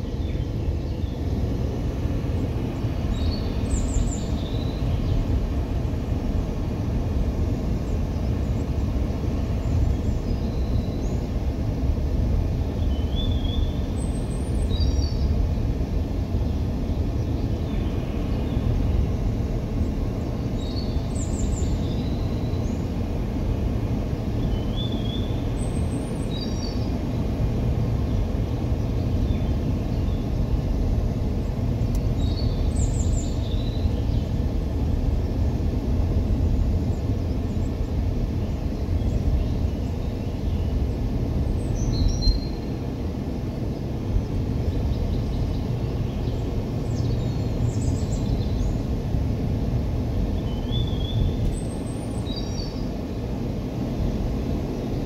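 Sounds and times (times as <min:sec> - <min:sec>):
car driving rumble: 0:00.0 - 0:55.0
songbird singing: 0:00.0 - 0:55.0.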